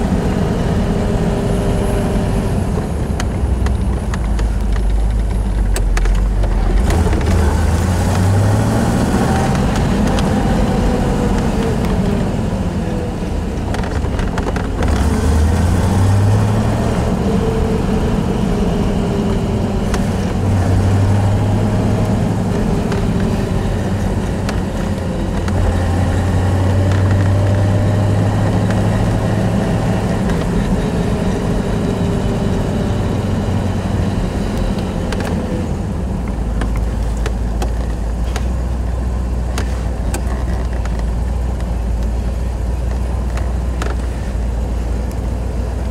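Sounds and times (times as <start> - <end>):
car engine running: 0.0 - 45.9.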